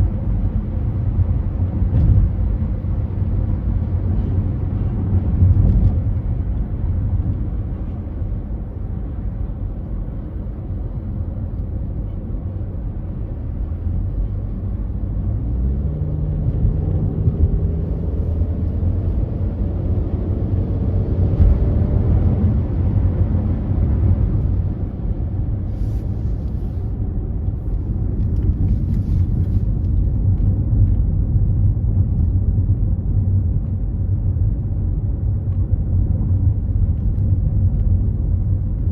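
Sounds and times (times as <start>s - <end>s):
road and engine noise: 0.0s - 38.9s.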